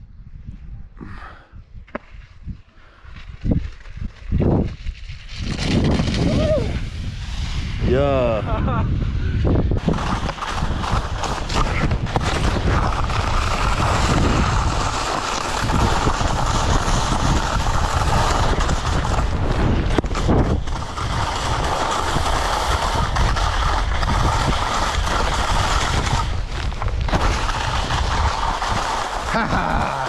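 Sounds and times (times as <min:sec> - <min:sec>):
wind rumbling on microphone: 0:00.0 - 0:30.0
skis scraping over snow: 0:02.0 - 0:30.0.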